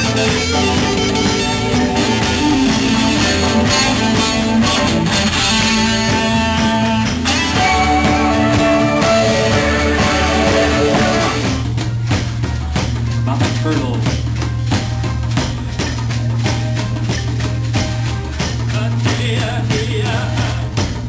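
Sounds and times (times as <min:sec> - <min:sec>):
band music with strummed guitar: 0:00.0 - 0:21.0.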